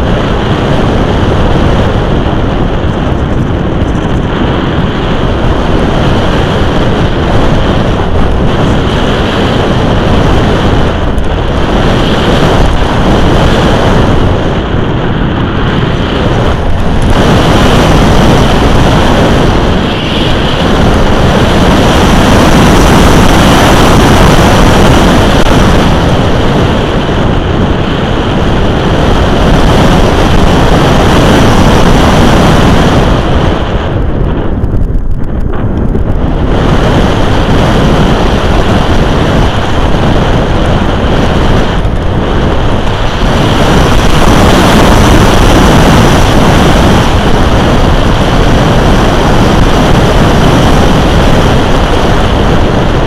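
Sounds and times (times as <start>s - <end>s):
wind rushing past camera: 0.0s - 53.0s.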